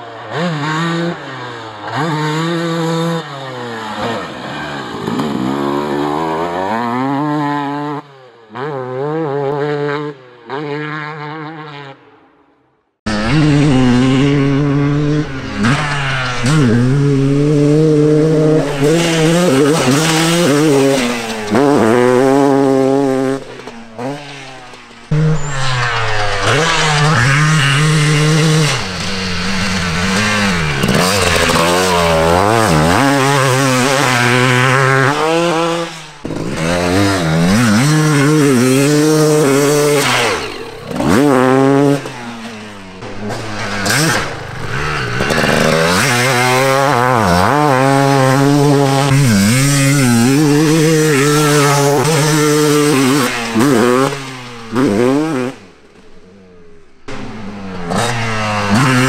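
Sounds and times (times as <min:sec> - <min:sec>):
motocross bike engine revving: 0:00.0 - 0:12.2, 0:13.1 - 0:59.0.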